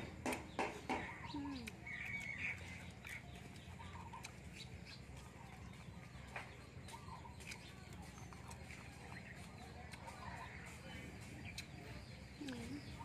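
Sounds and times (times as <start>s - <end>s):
chickens clucking: 0.0s - 13.0s
low steady hum: 0.0s - 13.0s.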